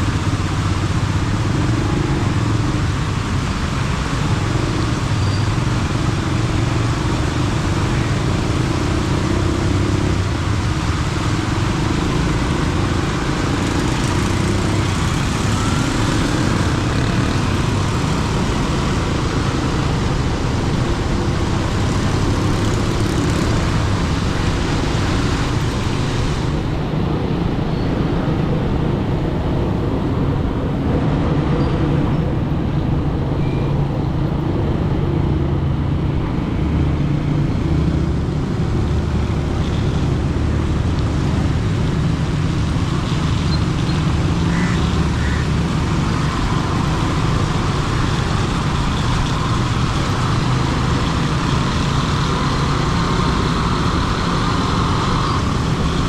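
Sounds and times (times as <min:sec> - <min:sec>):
vehicle engine hum and road noise: 0:00.0 - 0:56.0.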